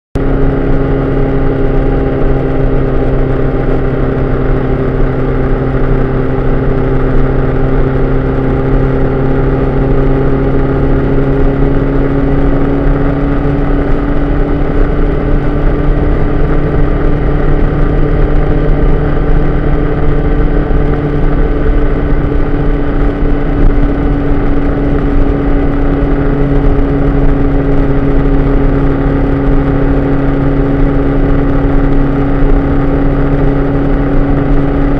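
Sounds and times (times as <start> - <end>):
vehicle engine drone: 0.2 - 34.9
wind noise: 0.2 - 34.9.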